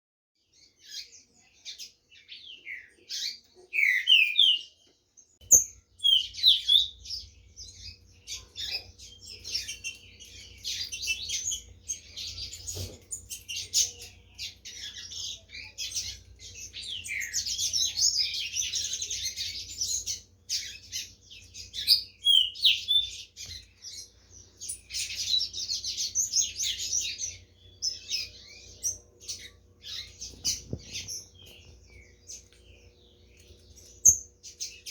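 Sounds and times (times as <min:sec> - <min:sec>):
birds singing whistled notes: 0:00.4 - 0:34.9.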